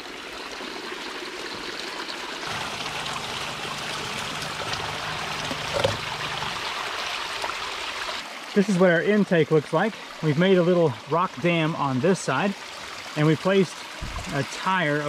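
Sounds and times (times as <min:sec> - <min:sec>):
creek water trickling over rocks: 0:00.0 - 0:15.0.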